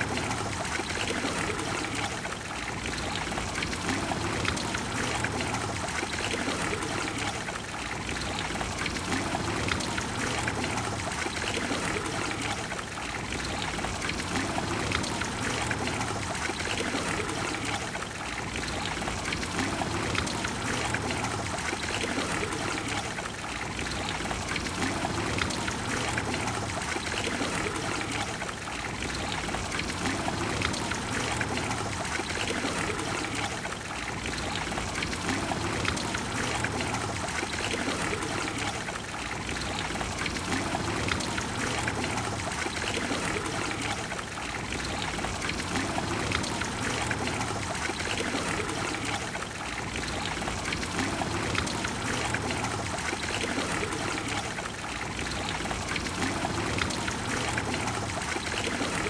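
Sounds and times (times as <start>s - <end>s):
fountain water splashing into basin: 0.0s - 59.0s.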